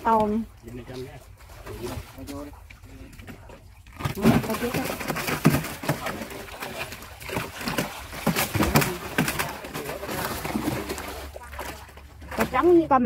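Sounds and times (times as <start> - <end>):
fish splashing in water: 0.0 - 13.0.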